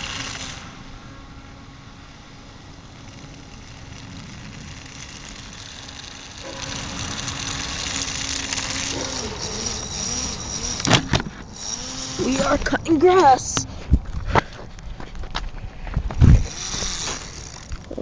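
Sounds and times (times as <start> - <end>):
small electric motor and propeller whirring: 0.0 - 18.0.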